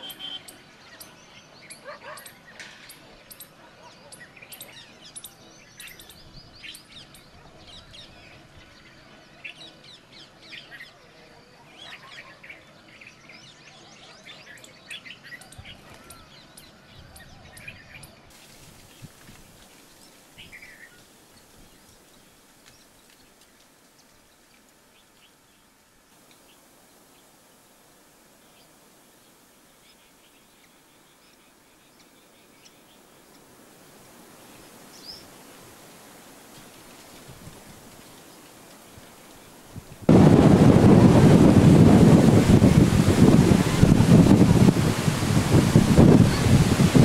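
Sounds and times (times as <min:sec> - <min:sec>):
birds chirping: 0:00.0 - 0:27.7, 0:36.4 - 0:47.0.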